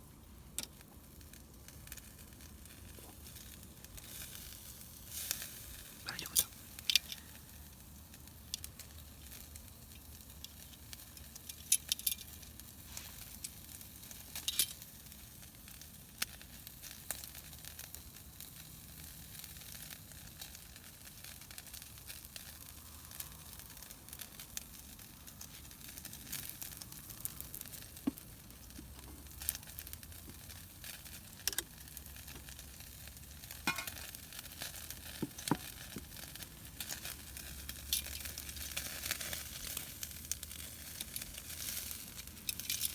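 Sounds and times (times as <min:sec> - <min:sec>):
campfire sizzling hiss: 0:00.0 - 0:42.9
sharp pops and crackles: 0:00.5 - 0:17.4, 0:19.6 - 0:42.9.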